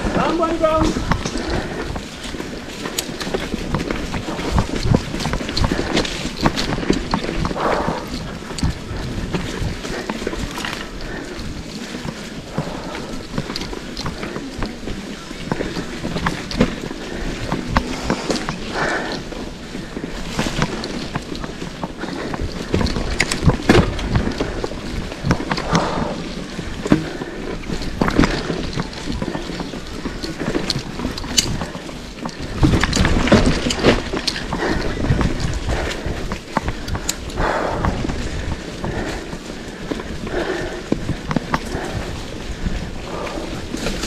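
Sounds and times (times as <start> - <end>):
bike knocking and rattling: 0.0 - 44.0
mountain bike on dirt trail: 0.0 - 44.0
wind buffeting microphone: 0.0 - 44.0.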